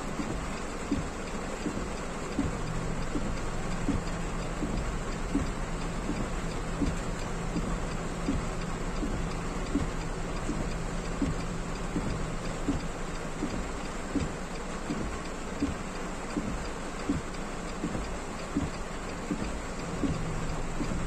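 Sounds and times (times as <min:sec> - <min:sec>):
heavy rain on car roof: 0:00.0 - 0:21.0
soft ticking: 0:00.0 - 0:21.0.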